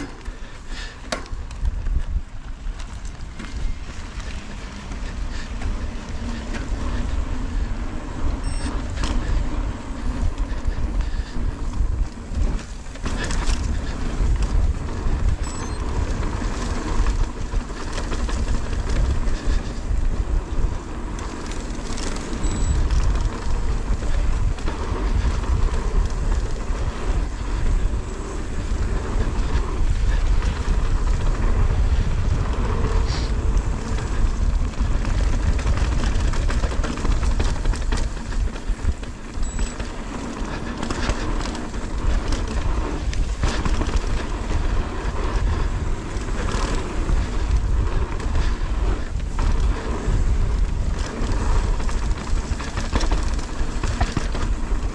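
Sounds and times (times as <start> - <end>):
bike clicks and rattles: 0.0 - 54.9
tyres rumbling on dirt: 0.0 - 54.9
wind buffeting microphone: 0.0 - 54.9.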